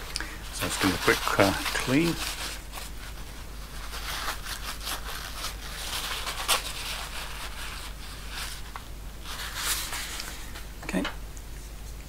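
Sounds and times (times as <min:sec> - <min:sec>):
paper towel rubbing: 0:00.0 - 0:10.6.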